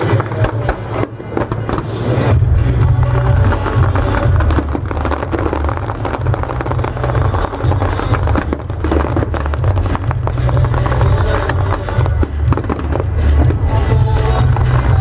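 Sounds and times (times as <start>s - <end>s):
fireworks crackling: 0.0s - 15.0s
heavy low rumble: 0.0s - 15.0s.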